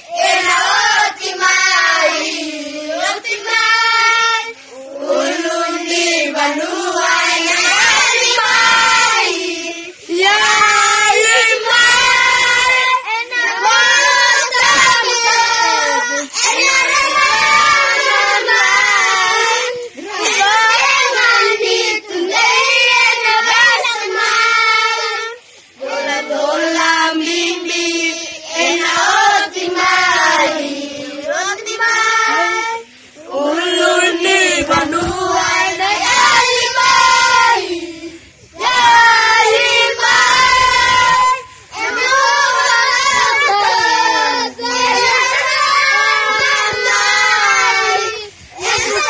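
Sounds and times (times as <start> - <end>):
children singing in unison: 0.0 - 49.0.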